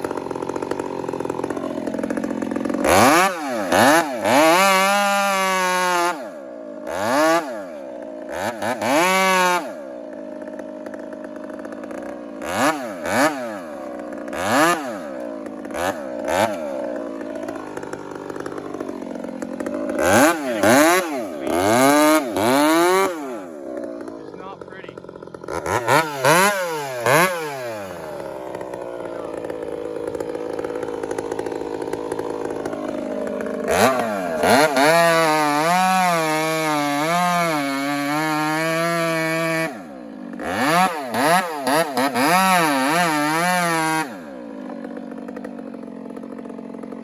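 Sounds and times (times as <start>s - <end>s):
chainsaw idling and revving: 0.0s - 47.0s.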